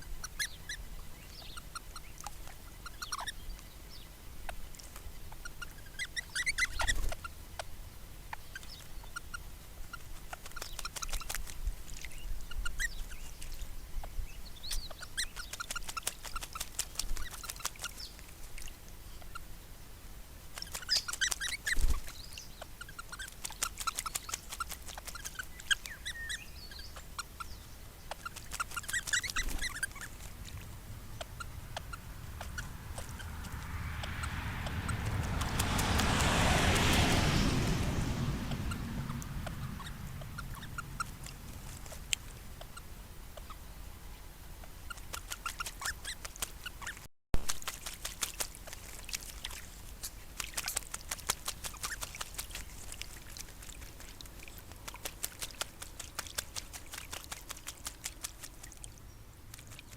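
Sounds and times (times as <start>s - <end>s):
parrots splashing in water: 0.1s - 19.6s, 20.3s - 59.9s.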